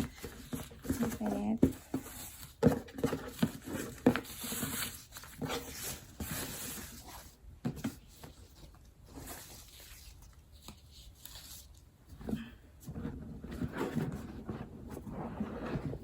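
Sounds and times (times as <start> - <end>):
paper rustling and crinkling: 0.0 - 16.0.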